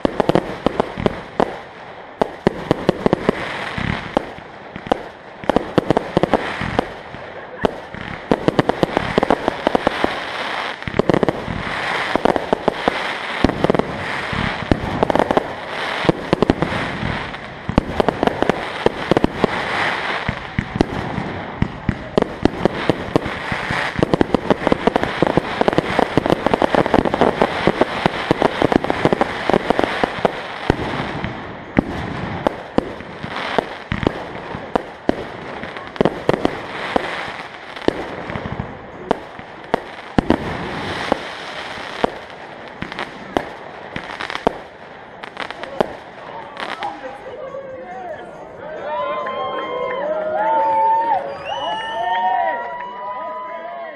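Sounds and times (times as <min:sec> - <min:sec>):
fireworks bursts: 0:00.0 - 0:47.6
fireworks crackling: 0:00.0 - 0:53.4.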